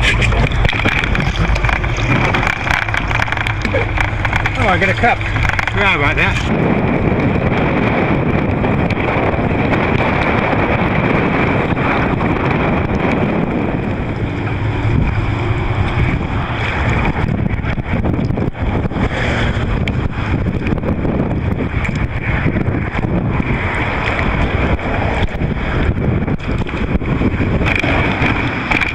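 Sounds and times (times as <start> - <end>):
choppy water: 0.0 - 28.9
wind buffeting microphone: 0.0 - 28.9.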